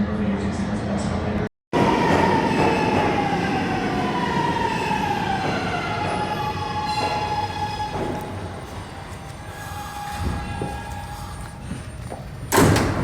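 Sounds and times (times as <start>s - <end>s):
train rumble: 0.4s - 13.0s
subway train motor whine: 1.8s - 13.0s.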